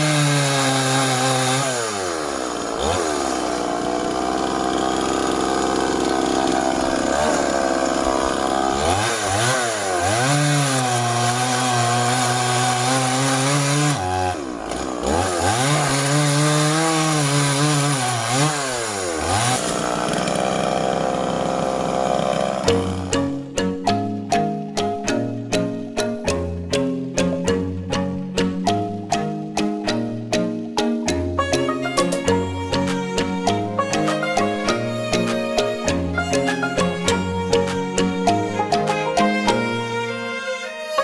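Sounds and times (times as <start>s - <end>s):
chainsaw cutting wood: 0.0s - 23.7s, 25.0s - 40.5s.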